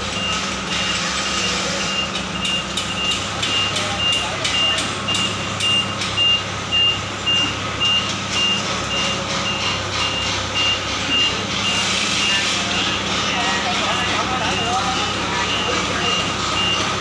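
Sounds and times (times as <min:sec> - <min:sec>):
forklift engine hum: 0:00.0 - 0:17.0
reverse alarm beeping: 0:00.0 - 0:17.0.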